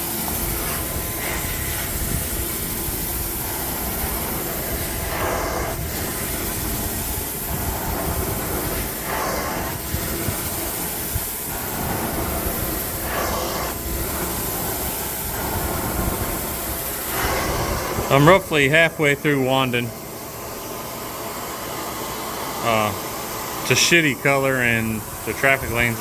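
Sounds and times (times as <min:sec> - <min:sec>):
carpet extraction vacuum rush: 0:00.0 - 0:26.0.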